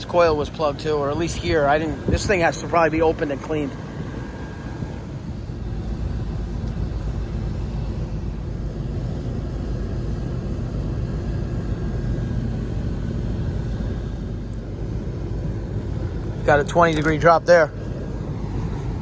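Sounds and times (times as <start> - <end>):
air conditioning unit rumbling: 0.0 - 19.0.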